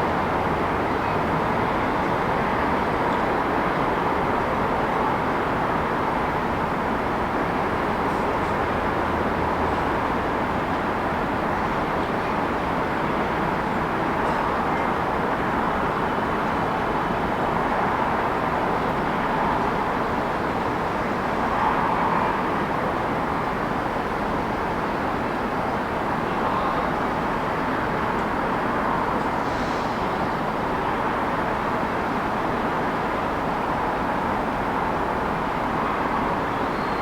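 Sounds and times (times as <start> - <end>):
city traffic passing: 0.0 - 37.0.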